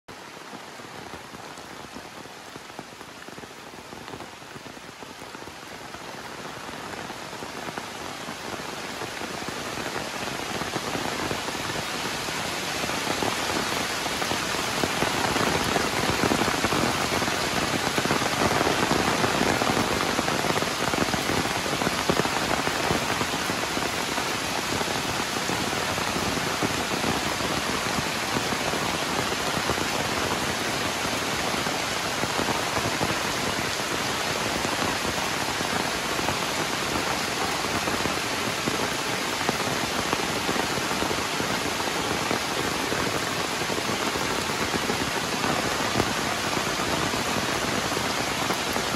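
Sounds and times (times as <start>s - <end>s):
heavy rain downpour: 0.0s - 48.9s.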